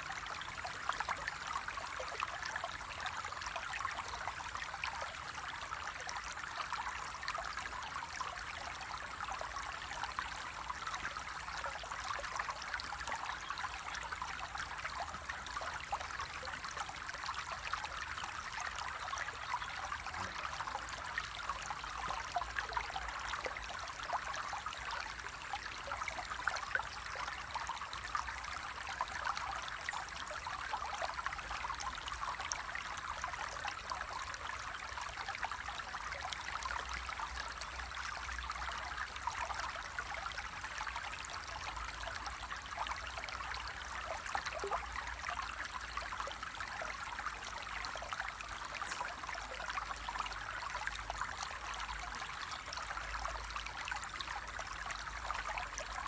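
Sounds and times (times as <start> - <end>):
stream trickling and splashing: 0.0 - 56.0.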